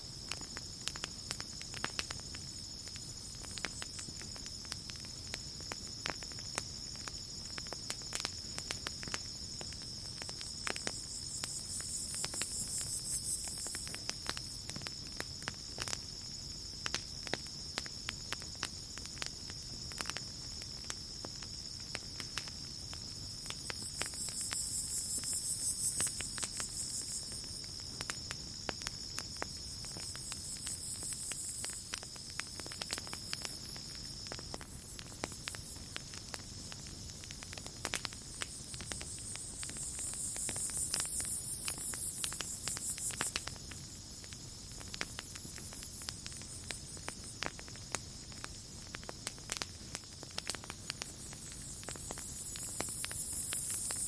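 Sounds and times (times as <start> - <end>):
campfire crackling and popping: 0.0 - 54.0
high steady insect tone: 0.0 - 54.0.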